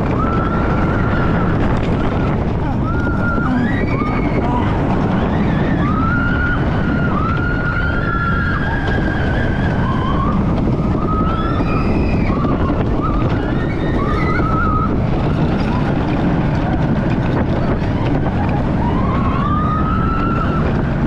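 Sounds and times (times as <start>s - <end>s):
riders screaming: 0.0s - 21.0s
roller coaster rumbling on track: 0.0s - 21.0s
wind rushing on microphone: 0.0s - 21.0s.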